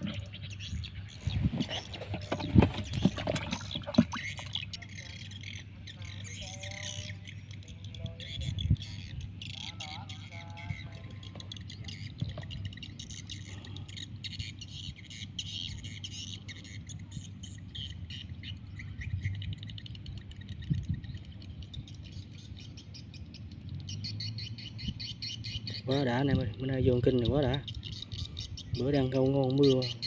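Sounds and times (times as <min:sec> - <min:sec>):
low steady rumble: 0:00.0 - 0:30.0
small birds chirping: 0:00.0 - 0:30.0.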